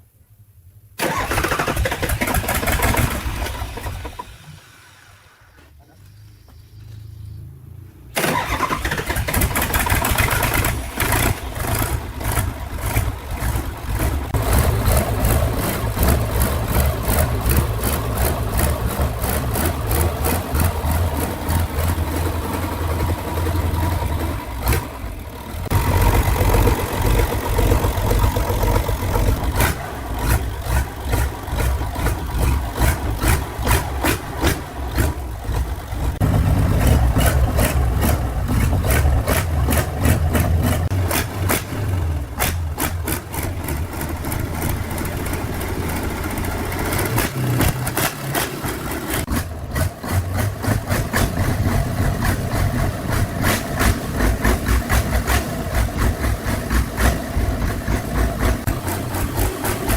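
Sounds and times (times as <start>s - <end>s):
engine running: 0.9s - 59.9s.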